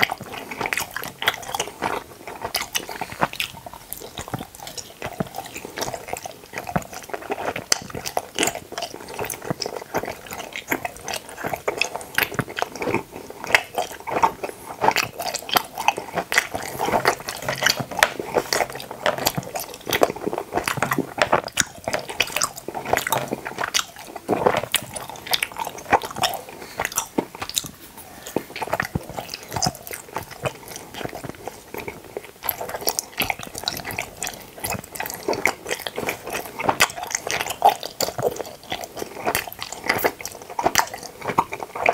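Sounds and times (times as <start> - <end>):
chewing gummy jelly: 0.0 - 41.9
mouth clicks and squishes: 0.0 - 41.9.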